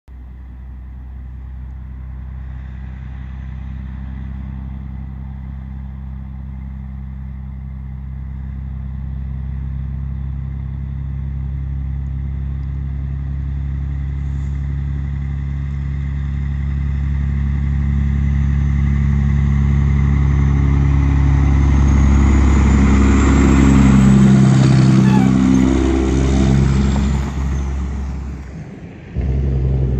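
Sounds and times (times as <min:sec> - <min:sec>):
truck diesel engine running: 0:00.2 - 0:29.9.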